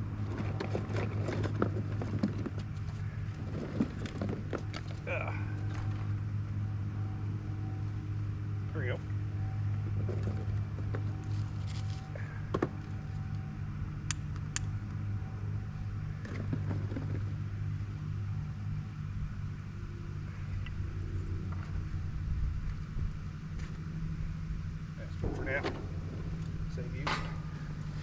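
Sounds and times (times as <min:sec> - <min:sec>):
propeller airplane engine droning: 0:00.0 - 0:28.0.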